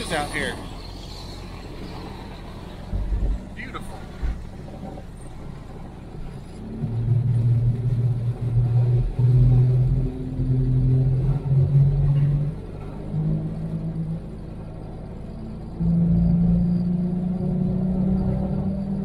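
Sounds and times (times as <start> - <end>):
vehicle engine low drone: 0.0 - 19.0.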